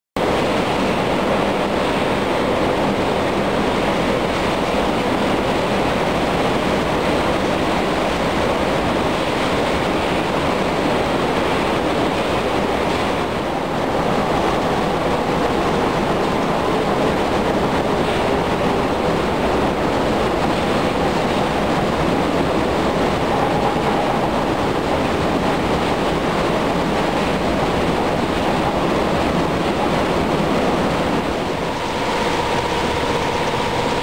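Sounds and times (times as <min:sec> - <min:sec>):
rush of water and material: 0:00.2 - 0:34.0.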